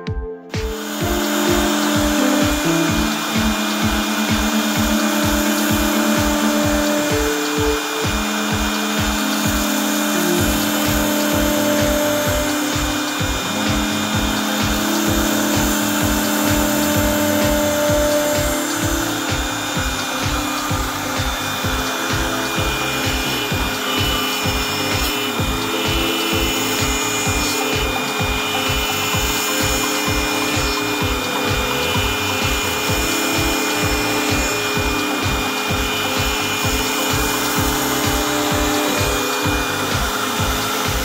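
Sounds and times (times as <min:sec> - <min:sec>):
router spindle whining: 0:00.0 - 0:41.0
router bit rasping in wood: 0:00.7 - 0:41.0.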